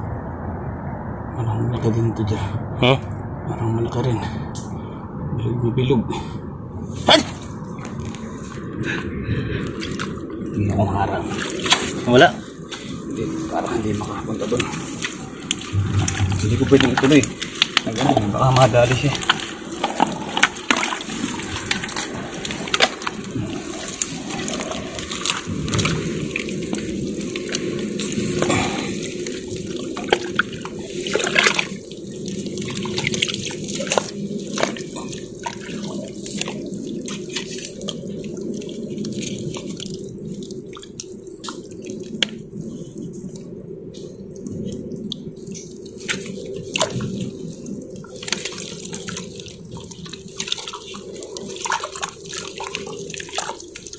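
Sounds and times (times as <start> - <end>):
wet mud squelching: 7.0 - 53.9.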